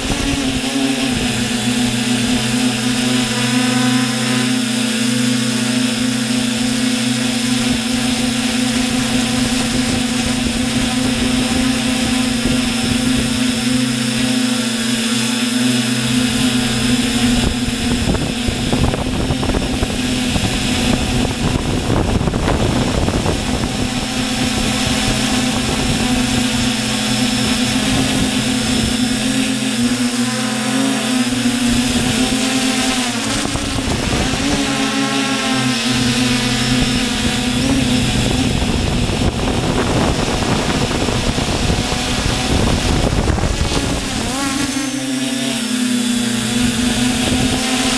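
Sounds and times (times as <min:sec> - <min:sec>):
drone motors buzzing: 0:00.0 - 0:47.9.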